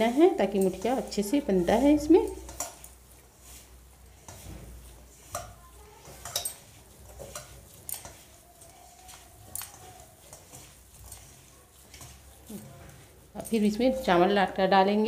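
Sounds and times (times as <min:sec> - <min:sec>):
bangles clinking on steel bowl: 0:00.0 - 0:03.0, 0:05.1 - 0:14.2
rice mashed by hand squishing: 0:00.0 - 0:14.6.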